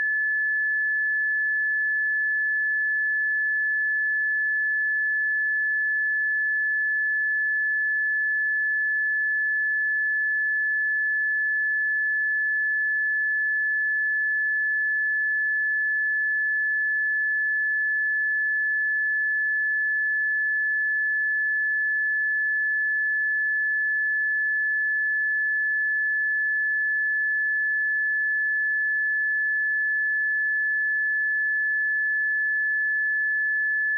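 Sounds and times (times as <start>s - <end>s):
steady sine-wave test tone: 0.0s - 33.9s.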